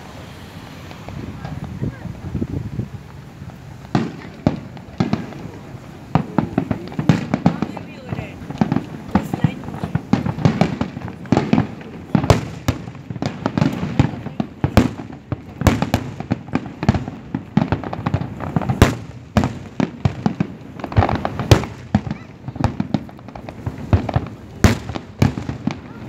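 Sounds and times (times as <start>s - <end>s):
fireworks bangs and crackles: 0.0s - 26.0s
loud firework booms: 0.0s - 26.0s.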